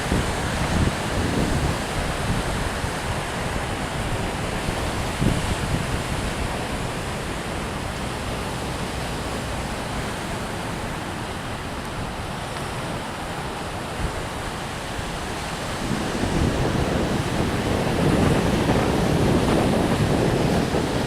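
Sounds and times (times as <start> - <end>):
waves breaking on a beach: 0.0 - 21.0
wind rumbling on microphone: 0.0 - 21.0.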